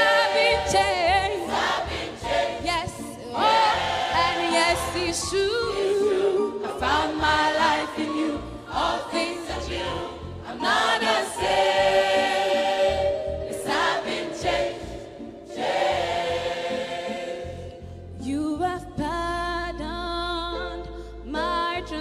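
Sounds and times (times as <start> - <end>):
choir singing gospel: 0.0 - 18.0.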